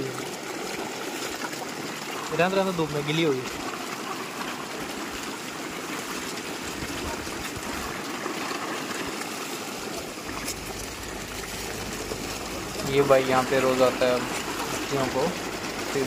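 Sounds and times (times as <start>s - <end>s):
fish splashing in water: 0.0s - 16.0s.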